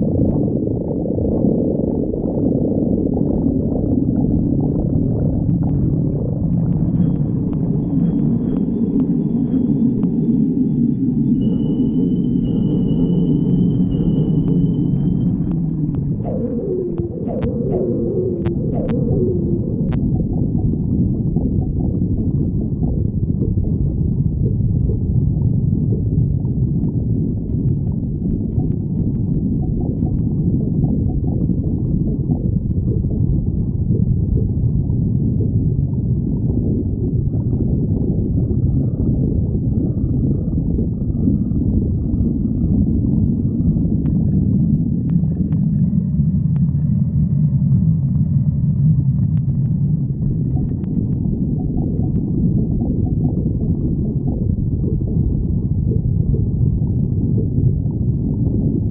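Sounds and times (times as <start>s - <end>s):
stomach growling: 0.0s - 10.6s, 13.9s - 58.9s.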